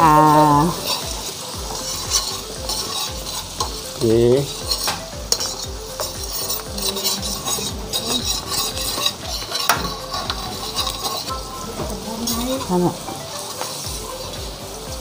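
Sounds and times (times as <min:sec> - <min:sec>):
aromatics sizzling in hot oil: 0:00.0 - 0:15.0
metal ladle scraping a wok: 0:00.0 - 0:15.0.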